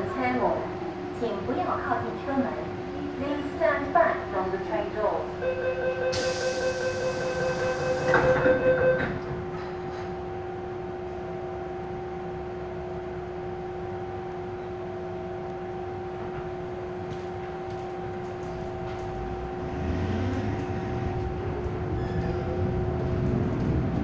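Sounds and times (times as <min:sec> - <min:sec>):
train carriage humming: 0:00.0 - 0:24.0
train running noise: 0:00.0 - 0:24.0.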